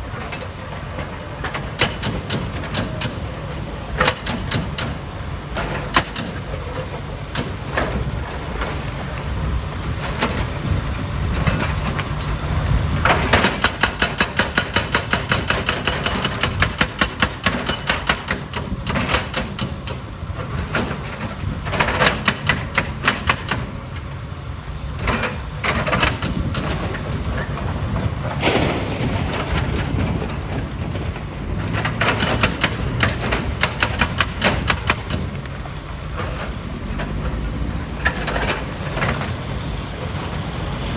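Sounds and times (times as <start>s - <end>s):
machinery low rumble: 0.0s - 13.8s, 20.0s - 40.9s.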